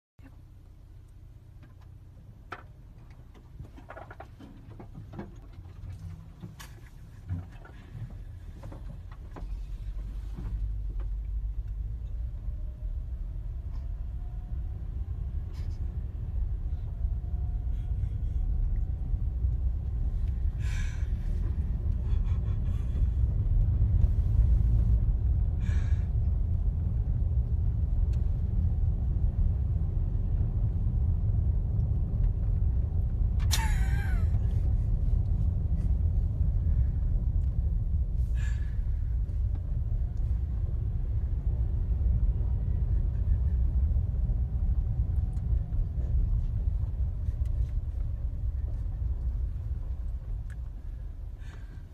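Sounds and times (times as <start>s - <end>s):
car driving on highway: 0.2s - 51.9s.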